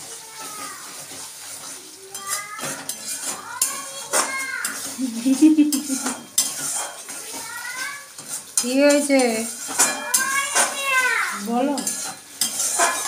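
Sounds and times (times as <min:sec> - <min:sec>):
metal spatula scraping steel pan: 0:00.0 - 0:13.0.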